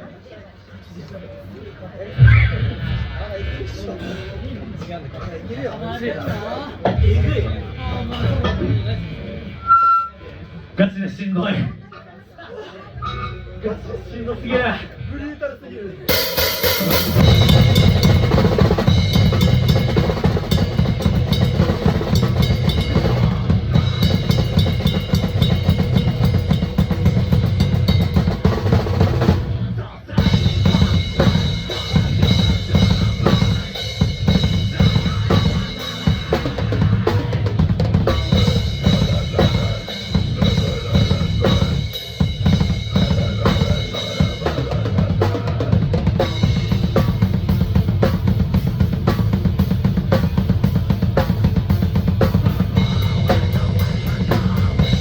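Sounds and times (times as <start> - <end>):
heavy metal drumming: 2.1 - 5.2, 6.8 - 9.6, 16.1 - 55.0.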